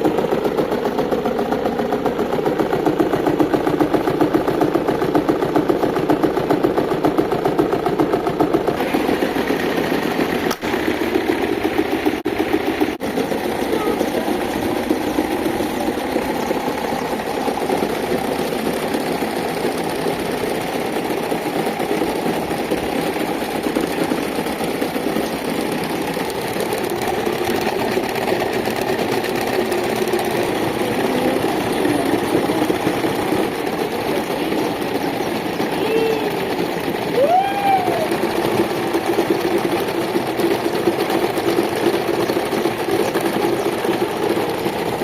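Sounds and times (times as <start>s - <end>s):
electric fan rattling buzz: 0.0s - 45.0s.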